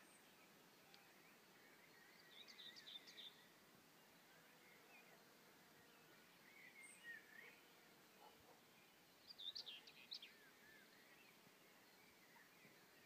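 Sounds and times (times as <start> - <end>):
wild birds singing: 0.0 - 13.0.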